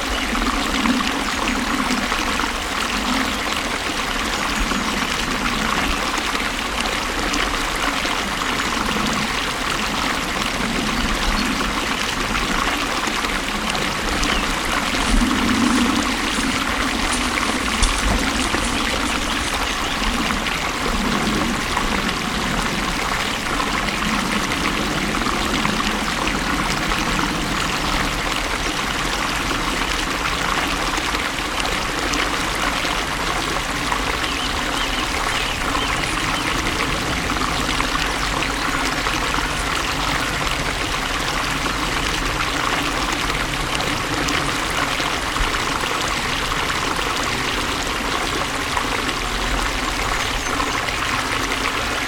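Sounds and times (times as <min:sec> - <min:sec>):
water flowing: 0:00.0 - 0:52.0.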